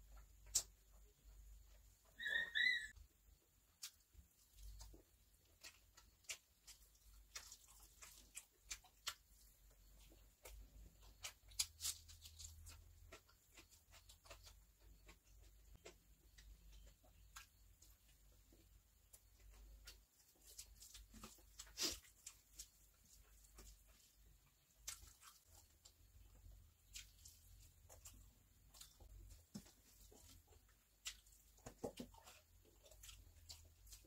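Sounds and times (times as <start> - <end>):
faint chewing and mouth clicks: 0.0 - 2.1, 3.3 - 34.0.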